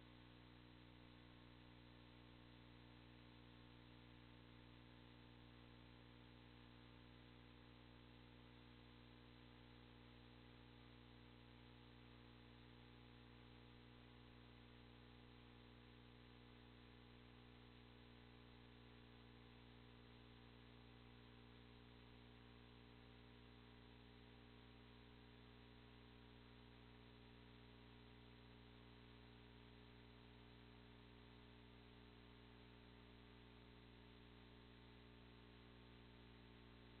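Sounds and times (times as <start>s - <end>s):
faint electrical hum: 0.0s - 37.0s.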